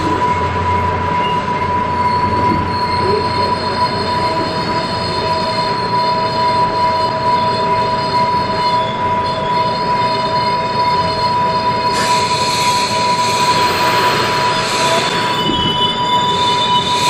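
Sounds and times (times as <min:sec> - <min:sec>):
high-pitched whine: 0:00.0 - 0:17.0
train running rumble: 0:00.0 - 0:17.0.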